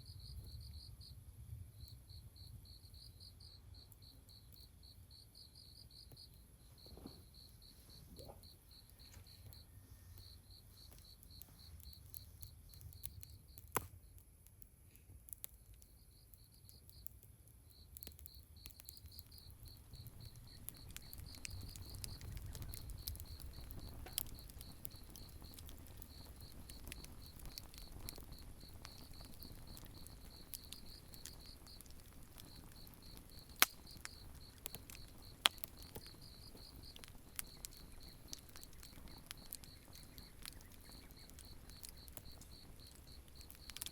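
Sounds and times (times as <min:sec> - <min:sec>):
crickets chirping: 0:00.0 - 0:13.6, 0:15.8 - 0:43.9
campfire popping and crackling: 0:00.1 - 0:43.9.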